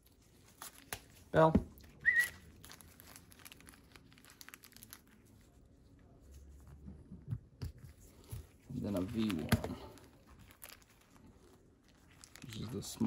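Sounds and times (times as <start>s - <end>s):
plastic bags crinkling: 0.0s - 6.6s, 8.1s - 13.0s.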